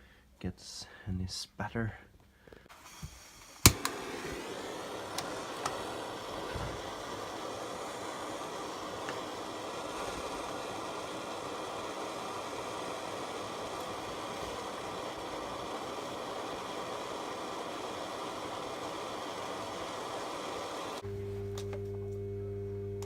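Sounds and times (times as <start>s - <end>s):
welder arc crackling hiss: 2.6s - 21.7s.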